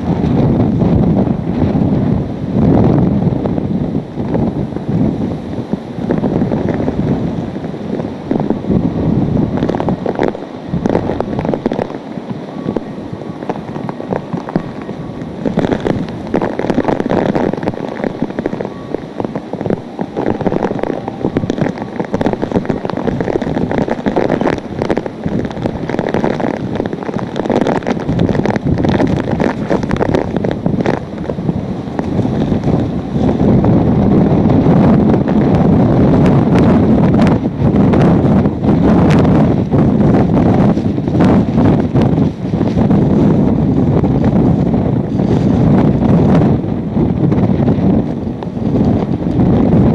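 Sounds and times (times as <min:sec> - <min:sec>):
rain lashing the street: 0:00.0 - 0:49.9
strong gusting wind: 0:00.0 - 0:49.9
wind buffeting microphone: 0:00.0 - 0:49.9.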